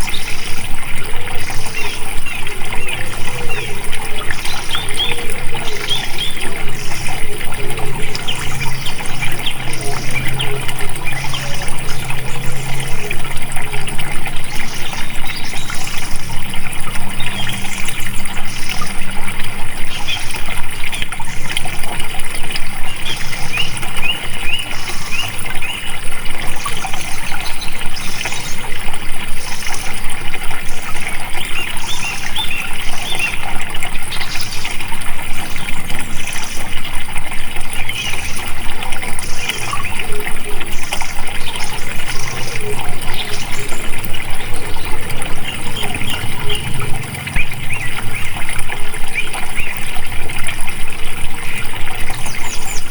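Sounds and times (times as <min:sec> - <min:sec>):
running water: 0:00.0 - 0:52.9.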